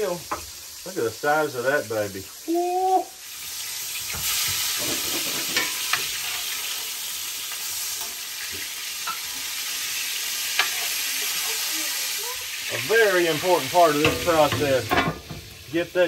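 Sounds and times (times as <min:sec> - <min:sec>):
meat sizzling in grease: 0:00.0 - 0:16.0.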